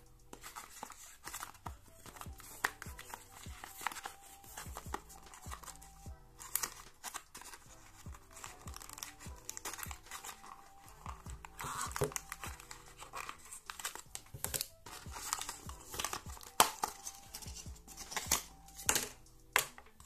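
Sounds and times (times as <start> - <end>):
background music with steady beat: 0.0 - 20.0
hands handling cardboard box: 0.3 - 20.0.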